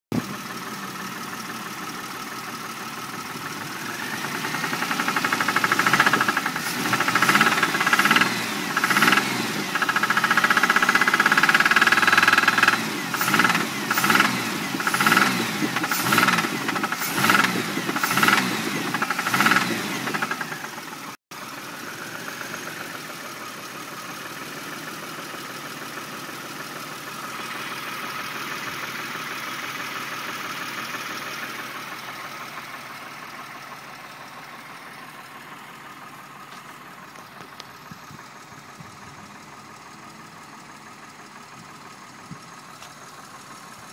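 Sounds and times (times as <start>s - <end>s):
car engine idling and revving: 0.1s - 43.9s.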